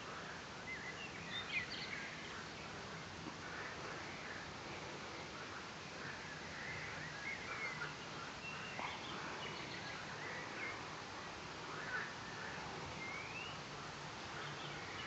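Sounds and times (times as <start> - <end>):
faint hiss: 0.0 - 15.0
birds chirping: 0.7 - 11.0, 11.7 - 15.0.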